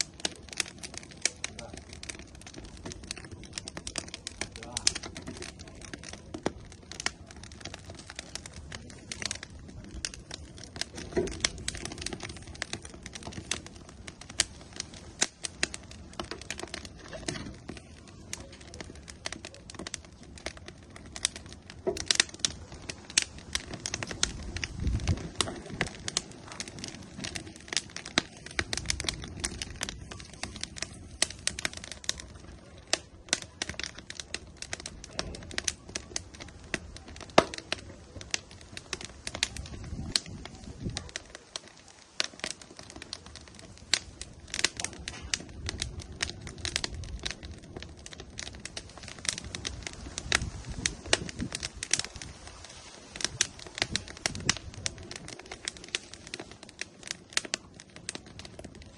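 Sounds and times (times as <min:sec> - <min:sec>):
firewood crackling and popping: 0:00.0 - 0:58.9.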